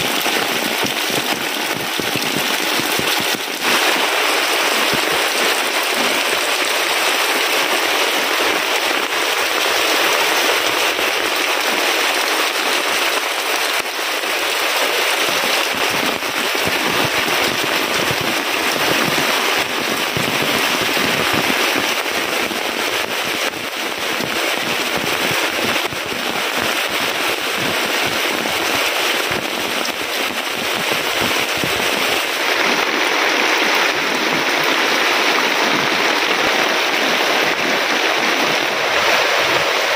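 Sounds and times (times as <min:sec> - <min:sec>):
heavy rain on leaves and roof: 0:00.0 - 0:39.9
water running off roof edge: 0:00.0 - 0:39.9.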